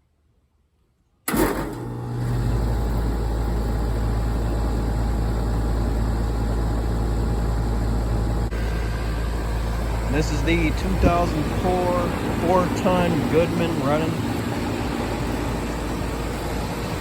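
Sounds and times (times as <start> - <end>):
air conditioner running hum: 1.3 - 17.0.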